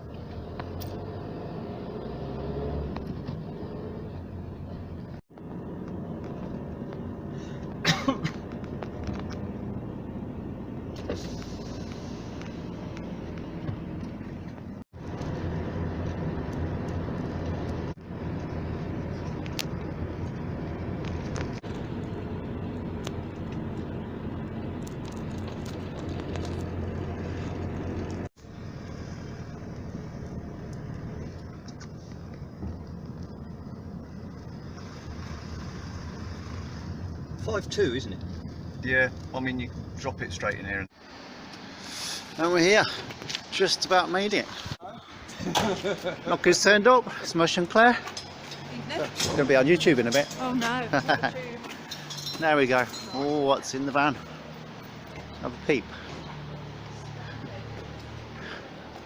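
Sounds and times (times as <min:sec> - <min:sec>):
vehicle driving hum: 0:00.0 - 0:59.0.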